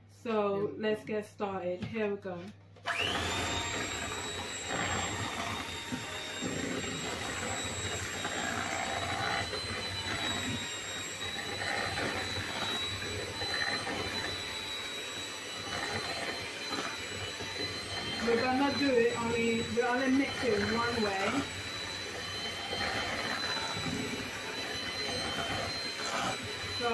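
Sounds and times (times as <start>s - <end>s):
electric mixer whining: 2.8s - 26.9s.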